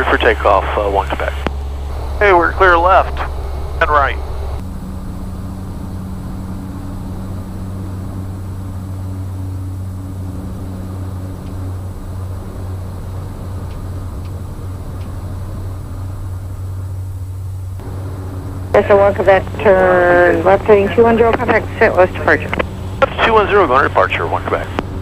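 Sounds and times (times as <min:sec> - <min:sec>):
turboprop engine droning: 0:00.0 - 0:25.0.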